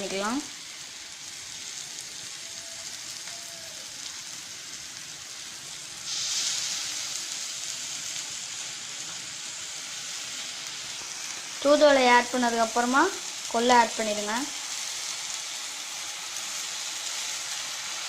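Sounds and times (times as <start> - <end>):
leaves sizzling in hot pan: 0.0 - 18.0
masala sizzling in hot oil: 0.0 - 18.0.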